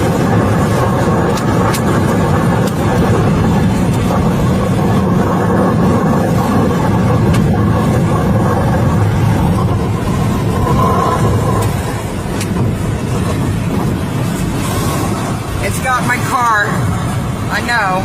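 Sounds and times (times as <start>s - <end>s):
wind pounding a car: 0.0s - 18.0s.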